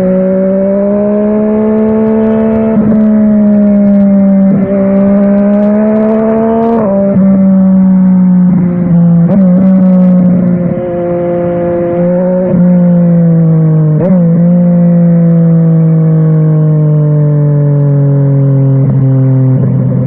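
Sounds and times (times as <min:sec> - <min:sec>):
motorcycle engine while riding: 0:00.0 - 0:20.0.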